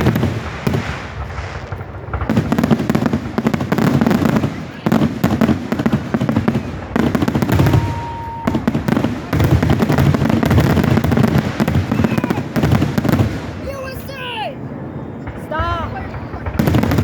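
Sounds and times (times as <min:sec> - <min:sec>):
firework whistling: 0:00.0 - 0:17.0
fireworks crackling: 0:00.0 - 0:17.0.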